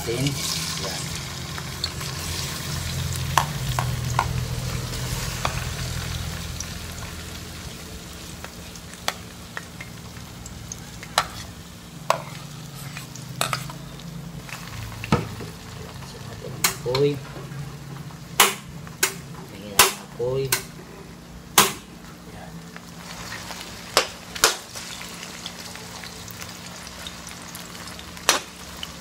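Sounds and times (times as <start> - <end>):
okra sizzling in hot oil: 0.0 - 29.0.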